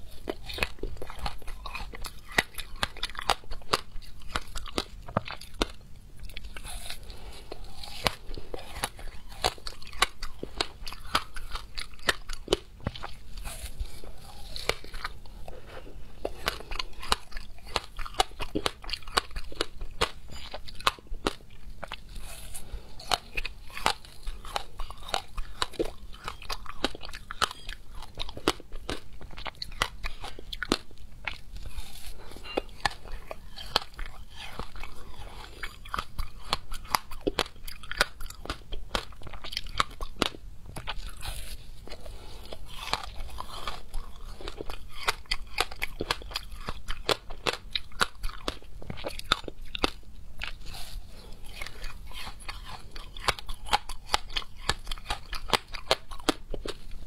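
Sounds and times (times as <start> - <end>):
crunchy biting and chewing ice: 0.0 - 57.0.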